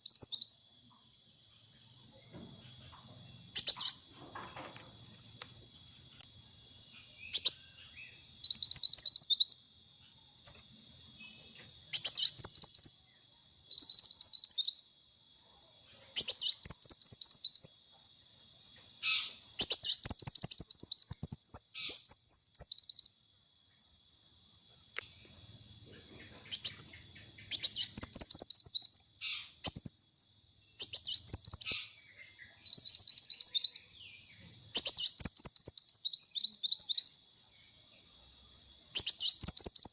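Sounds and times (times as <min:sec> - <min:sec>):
sunbird chirping trills: 0:00.0 - 0:39.9.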